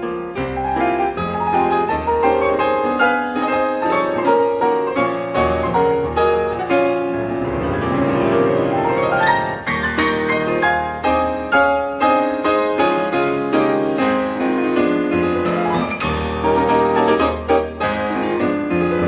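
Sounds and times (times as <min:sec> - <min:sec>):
solo piano: 0:00.0 - 0:19.0.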